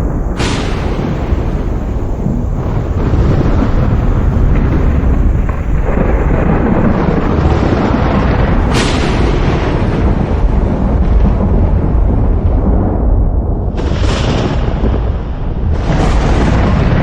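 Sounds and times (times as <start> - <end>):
sharp thunder crack: 0.0 - 17.0
thunder rumbling: 0.0 - 17.0.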